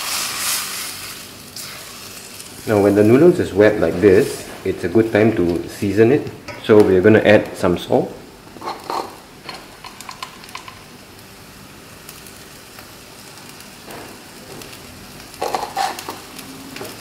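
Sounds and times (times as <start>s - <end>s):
noodles sizzling in a wok: 0.0s - 6.1s, 8.4s - 17.0s.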